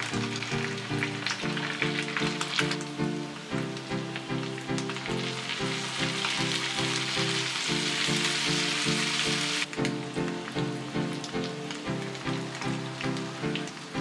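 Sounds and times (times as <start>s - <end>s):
background music with steady beat: 0.0s - 14.0s
food sizzling on hot plate: 0.0s - 14.0s.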